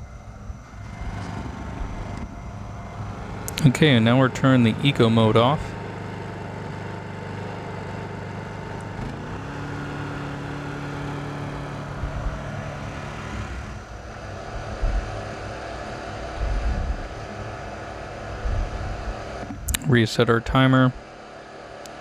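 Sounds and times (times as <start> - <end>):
low rumbles: 0.0 - 6.1, 8.5 - 21.1
generator engine running: 0.0 - 22.0.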